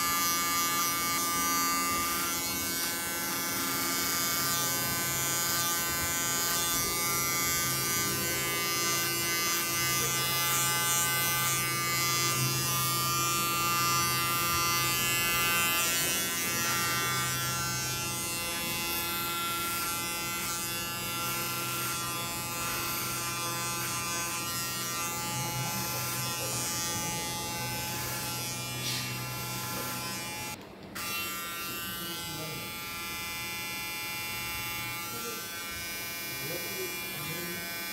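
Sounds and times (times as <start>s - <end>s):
electric hair clippers buzzing: 0.0s - 37.9s.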